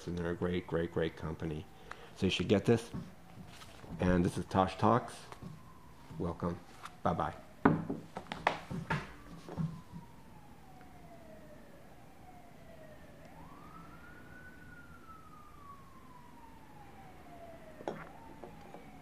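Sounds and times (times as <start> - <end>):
faint siren wailing: 0.0 - 19.0.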